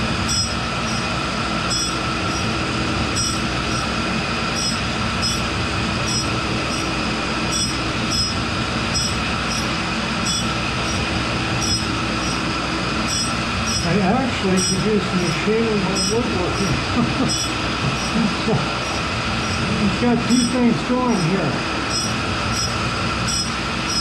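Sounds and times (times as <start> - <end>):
grinder wheel whining: 0.0 - 24.0
grinding wheel rasps: 0.0 - 24.0.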